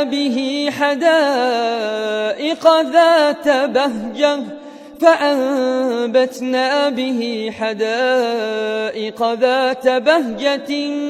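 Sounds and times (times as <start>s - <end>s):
solo voice reciting melodically: 0.0s - 11.0s.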